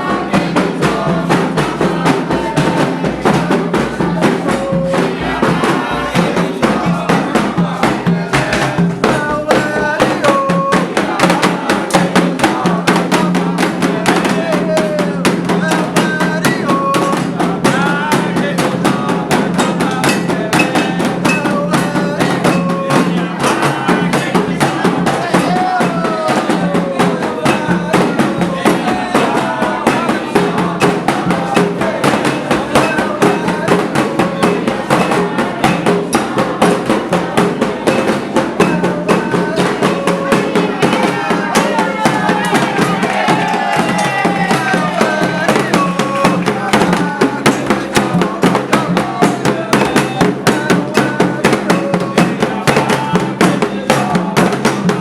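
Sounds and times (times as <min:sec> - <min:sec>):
hand drums beating: 0:00.0 - 0:55.0
voices singing: 0:00.0 - 0:55.0.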